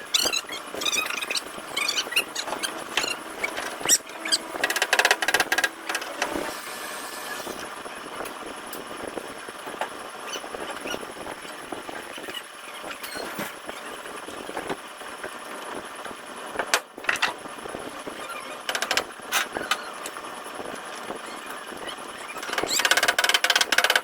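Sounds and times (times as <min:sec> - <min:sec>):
workshop background noise: 0:00.0 - 0:24.0.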